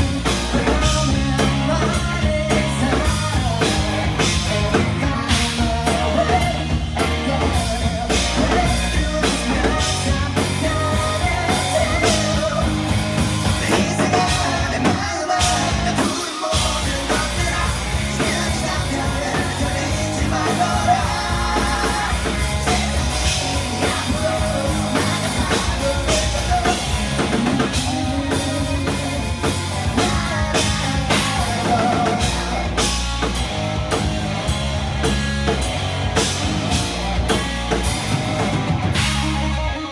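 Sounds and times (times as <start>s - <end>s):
person singing: 0.0s - 33.3s
rock band playing live: 0.0s - 39.9s.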